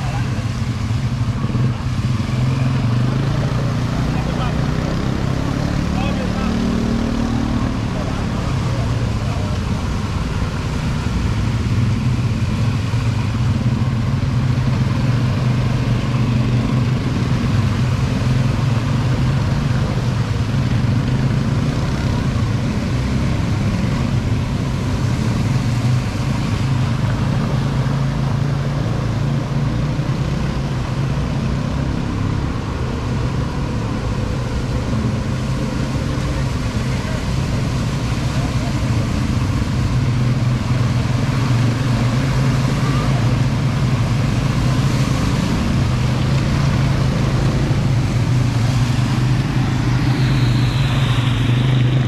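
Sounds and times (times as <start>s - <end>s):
quad bike engines running: 0.0s - 52.0s.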